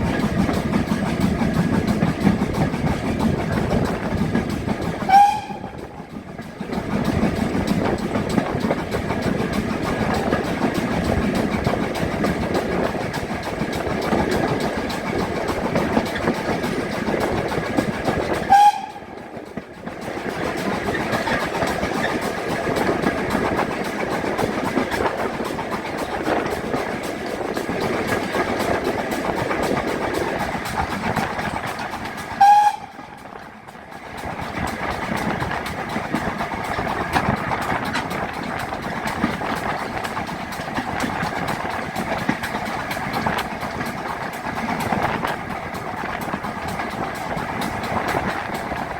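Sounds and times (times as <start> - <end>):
model train wheels clattering: 0.0 - 48.9.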